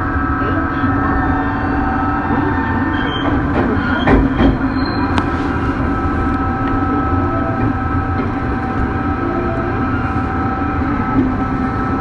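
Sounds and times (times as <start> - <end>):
steady whining tones: 0.0 - 12.0
subway car running noise: 0.0 - 12.0.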